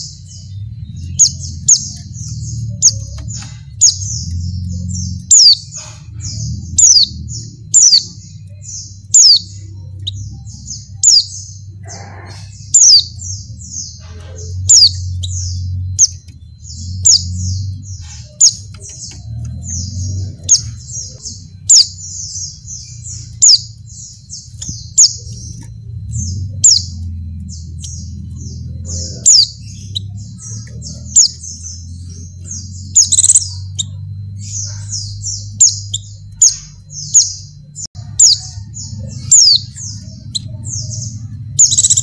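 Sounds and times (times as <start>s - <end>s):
bird chirping rapidly: 0.0s - 42.0s
low rumble: 0.0s - 42.0s.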